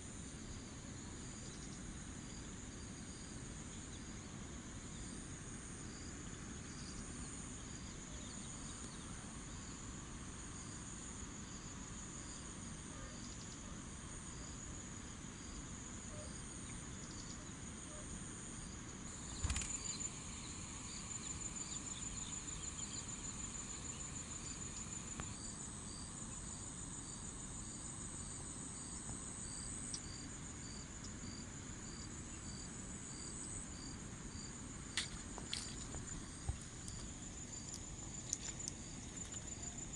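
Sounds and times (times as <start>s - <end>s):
insects trilling and chirping: 0.0s - 39.9s.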